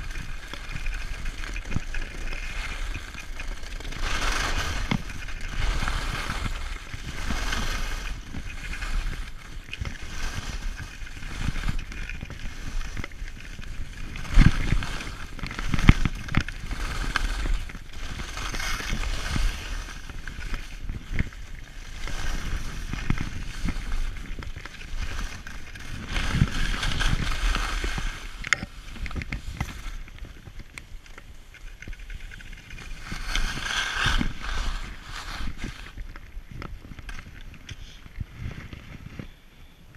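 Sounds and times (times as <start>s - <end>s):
skis scraping over snow: 0.0s - 39.5s
wind rumbling on microphone: 0.0s - 39.9s.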